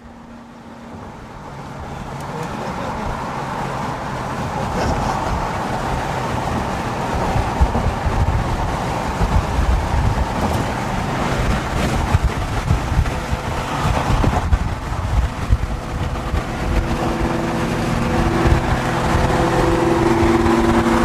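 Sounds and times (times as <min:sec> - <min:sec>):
car engine and road rumble: 0:00.0 - 0:21.0
wind buffeting microphone: 0:00.9 - 0:21.0.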